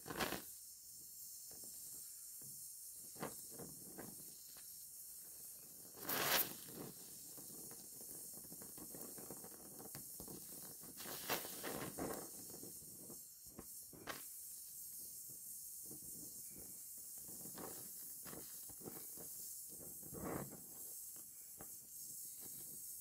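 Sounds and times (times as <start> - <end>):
gas welding torch hissing: 0.0 - 23.0.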